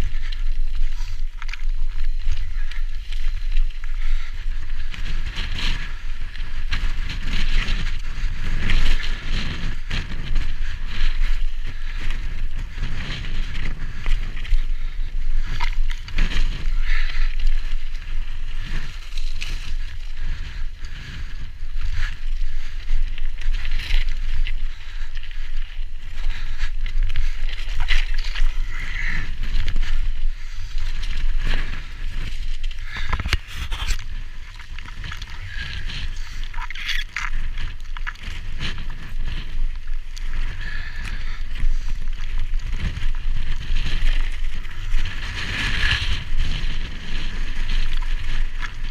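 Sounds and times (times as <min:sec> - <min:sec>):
bike rattling: 0:00.0 - 0:48.9
tyres crunching over rock: 0:00.0 - 0:48.9
wind on microphone: 0:00.0 - 0:48.9.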